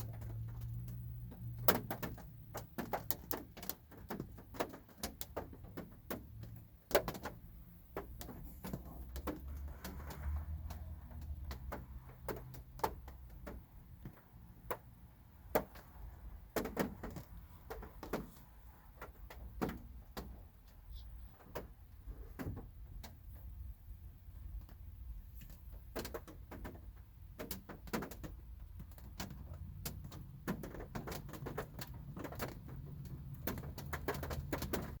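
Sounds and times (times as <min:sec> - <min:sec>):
raindrops tapping on car roof: 0:00.0 - 0:35.0.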